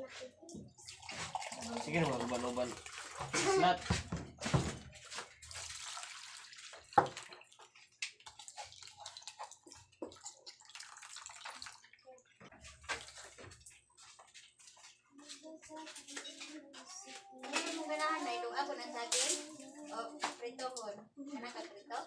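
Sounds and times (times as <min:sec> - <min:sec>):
liquid sloshing and splashing: 0:00.6 - 0:15.4, 0:17.4 - 0:20.4.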